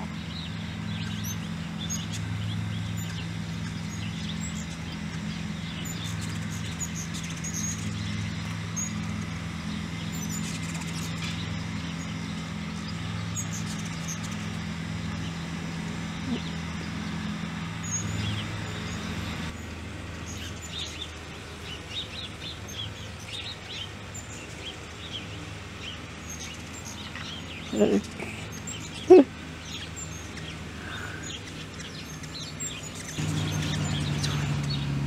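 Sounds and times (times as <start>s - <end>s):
hummingbird wings humming: 0.0s - 35.0s.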